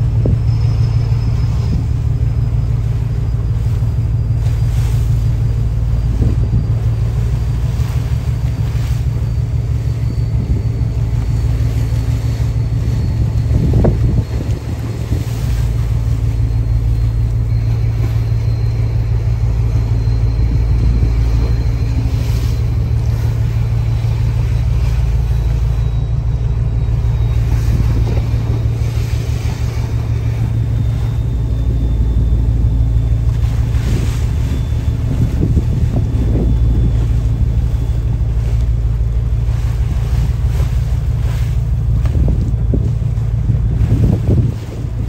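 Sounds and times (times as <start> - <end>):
boat engine droning: 0.0 - 45.0
wind buffeting microphone: 0.0 - 45.0.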